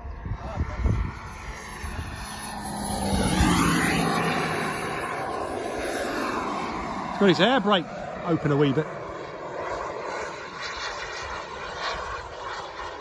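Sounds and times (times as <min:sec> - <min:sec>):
high turbine whine: 0:00.0 - 0:13.0
model jet flying past: 0:00.0 - 0:13.0.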